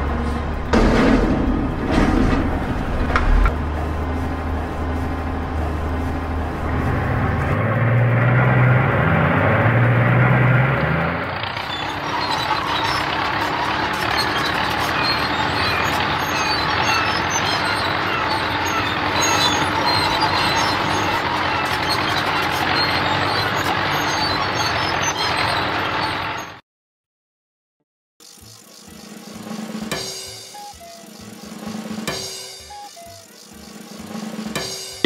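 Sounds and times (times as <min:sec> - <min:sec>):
cartoon road roller engine: 0:00.0 - 0:26.6, 0:28.2 - 0:35.0.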